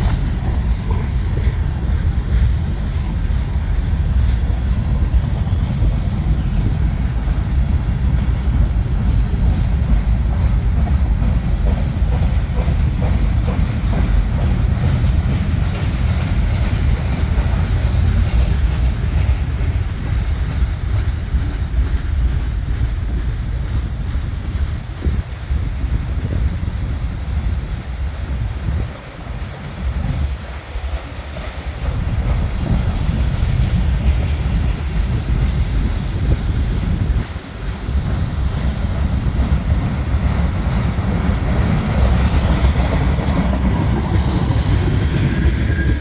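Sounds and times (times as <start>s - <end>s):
freight train cars rumbling: 0.0s - 46.0s.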